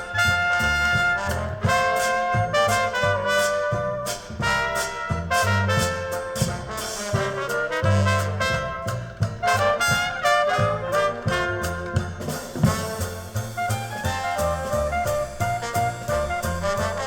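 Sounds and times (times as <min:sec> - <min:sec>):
big-band jazz over loudspeakers: 0:00.0 - 0:17.0.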